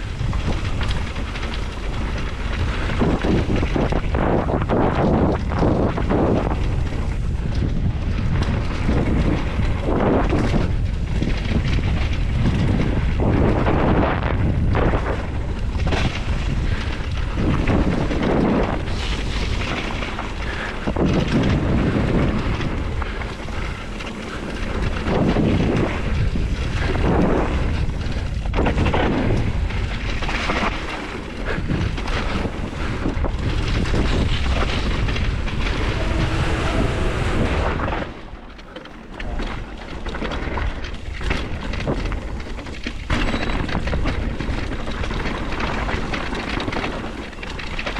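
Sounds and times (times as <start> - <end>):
bike tyre noise: 0.0 - 43.2
wind buffeting microphone: 0.0 - 47.9.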